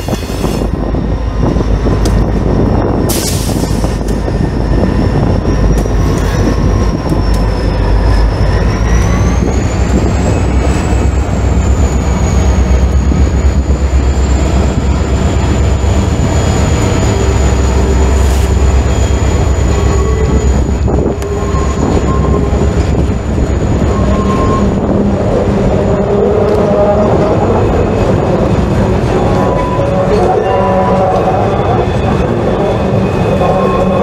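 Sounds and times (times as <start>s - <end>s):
diesel locomotives rumbling: 0.0s - 34.0s.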